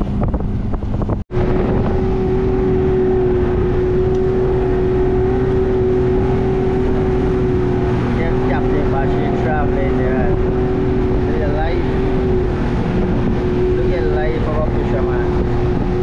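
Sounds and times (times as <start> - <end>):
boat engine rumble: 0.0 - 16.0
steady whining hum: 0.1 - 16.0.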